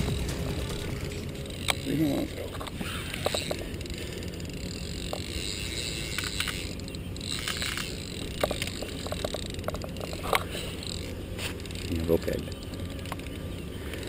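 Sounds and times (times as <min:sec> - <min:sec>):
outdoor background noise on water: 0:00.0 - 0:14.0.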